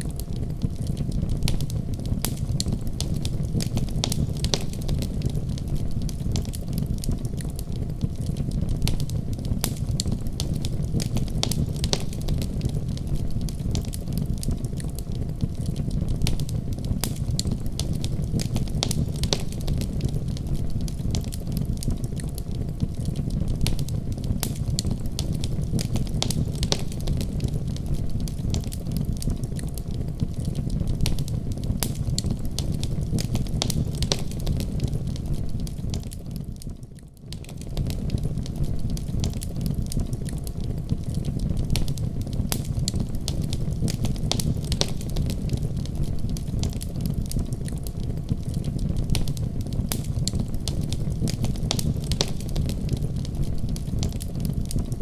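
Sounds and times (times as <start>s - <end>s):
fire crackling and popping: 0.0s - 55.0s
low roar of flames: 0.0s - 55.0s.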